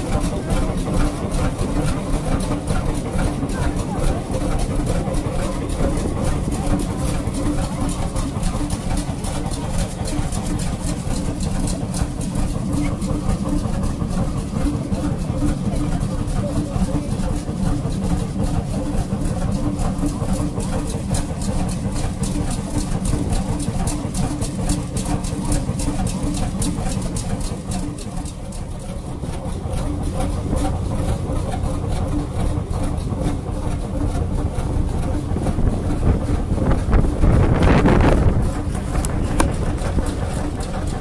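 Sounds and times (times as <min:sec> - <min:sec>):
stationary engine running: 0:00.0 - 0:41.0.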